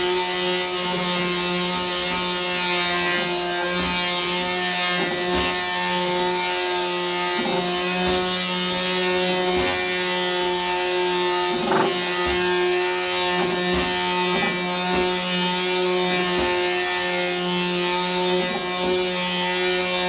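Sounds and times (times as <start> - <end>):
sander motor hum: 0.6 - 20.0
sandpaper rubbing on wood: 1.0 - 19.0.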